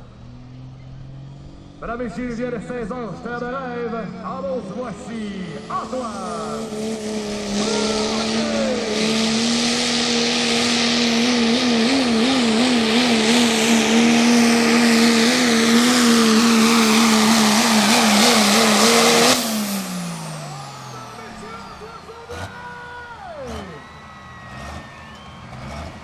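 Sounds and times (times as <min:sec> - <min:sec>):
diesel truck engine at full throttle: 0:00.0 - 0:26.0.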